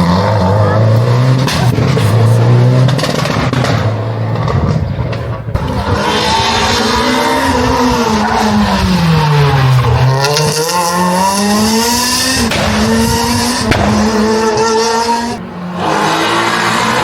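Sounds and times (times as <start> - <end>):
rally car engine revving: 0.0 - 17.0
tyre noise: 0.0 - 17.0.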